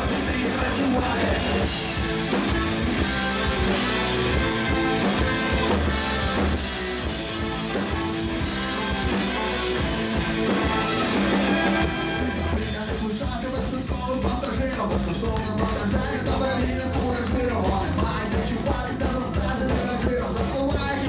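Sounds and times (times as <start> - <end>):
drum kit: 0.0 - 21.0
electric guitar: 0.0 - 21.0
rock band playing live: 0.0 - 21.0.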